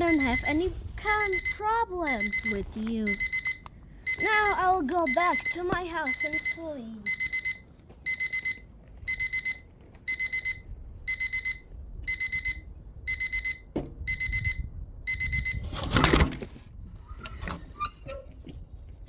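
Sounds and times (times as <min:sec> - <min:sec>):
alarm clock beeping: 0:00.0 - 0:15.8.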